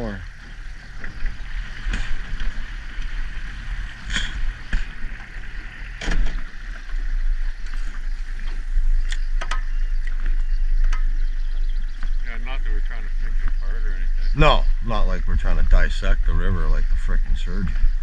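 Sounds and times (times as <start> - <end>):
jet boat engine rumble: 0.0 - 18.0
water noise: 0.0 - 18.0.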